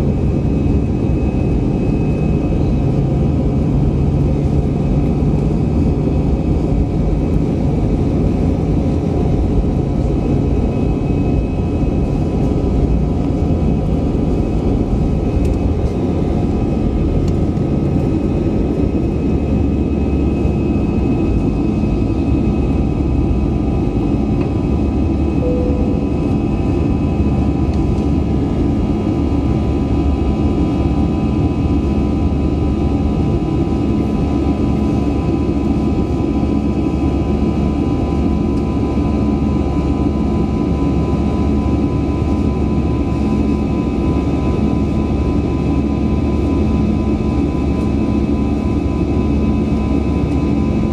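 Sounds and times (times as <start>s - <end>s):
jet engines rumbling with whine: 0.0s - 50.9s.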